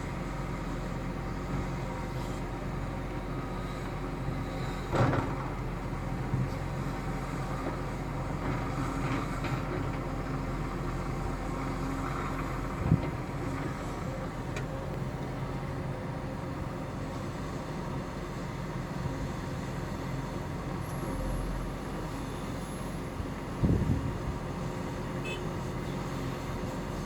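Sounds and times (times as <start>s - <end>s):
heavy diesel machinery running: 0.0s - 27.0s.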